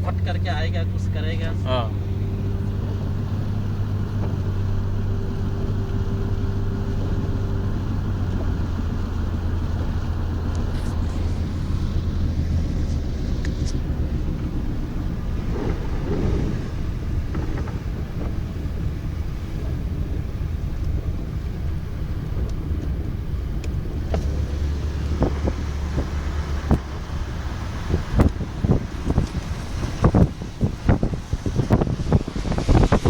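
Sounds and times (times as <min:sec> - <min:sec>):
car engine hum: 0:00.0 - 0:33.0
tyre noise on wet road: 0:00.0 - 0:33.0.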